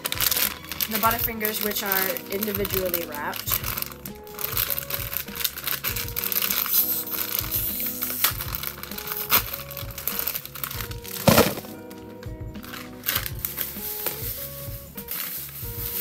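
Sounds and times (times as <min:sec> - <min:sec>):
background music: 0:00.0 - 0:16.0
plastic wrappers crinkling: 0:00.0 - 0:16.0.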